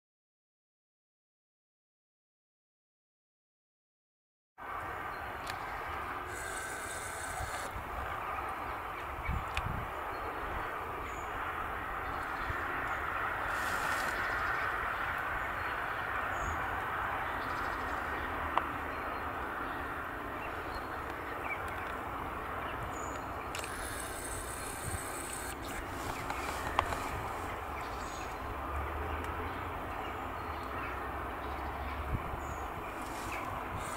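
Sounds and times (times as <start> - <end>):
outdoor background noise: 4.6 - 33.9.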